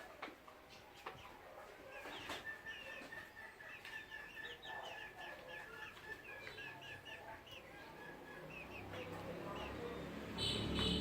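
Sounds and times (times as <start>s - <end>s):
chickens clucking and chirping: 0.0s - 11.0s.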